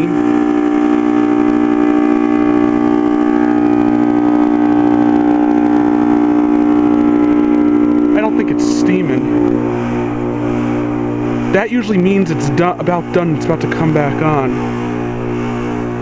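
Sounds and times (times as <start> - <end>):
heat pump compressor humming: 0.0 - 16.0.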